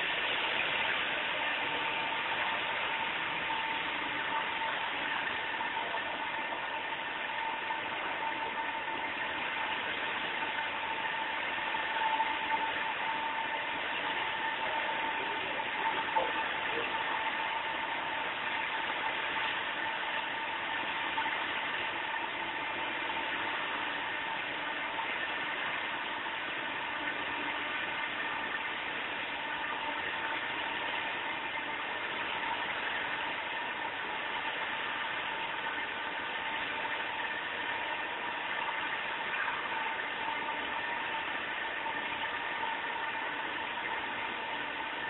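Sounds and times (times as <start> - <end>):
machine hum and hiss: 0.0 - 45.0
thin machine whine: 0.0 - 45.0.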